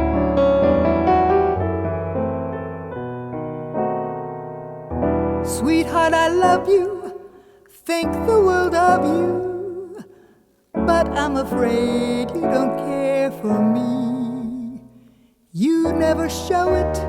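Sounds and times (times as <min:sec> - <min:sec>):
piano chords: 0:00.0 - 0:10.0, 0:10.7 - 0:15.0, 0:15.6 - 0:17.0.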